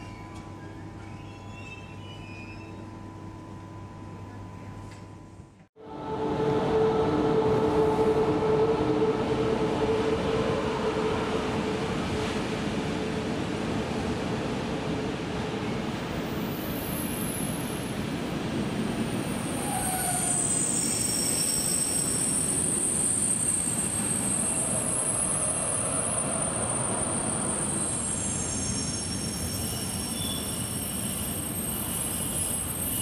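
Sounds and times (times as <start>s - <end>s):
train wheels rumbling on rail: 6.0s - 33.0s.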